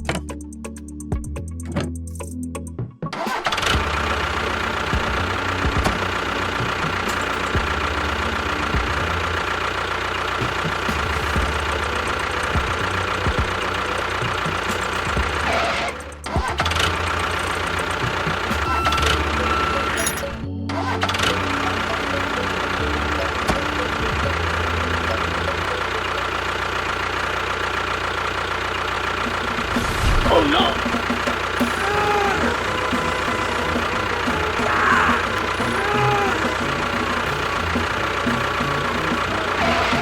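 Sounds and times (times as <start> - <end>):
motor running: 3.3 - 40.0.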